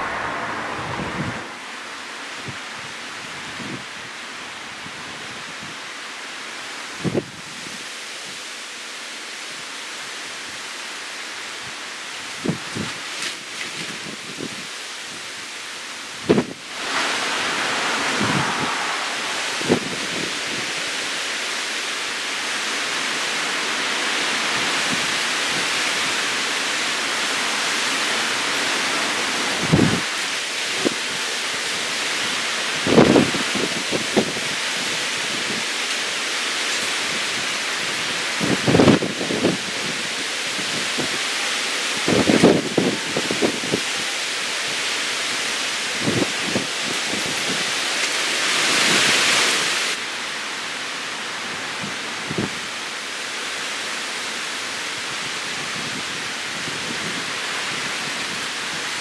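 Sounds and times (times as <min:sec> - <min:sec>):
heavy rain and wind: 0:00.0 - 0:59.0.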